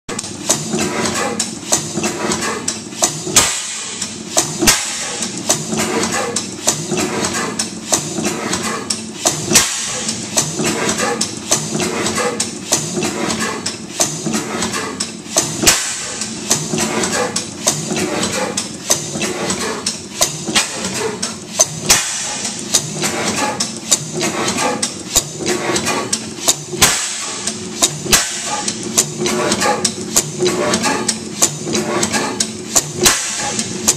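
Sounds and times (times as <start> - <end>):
engine valve gear clatter: 0.1 - 33.9.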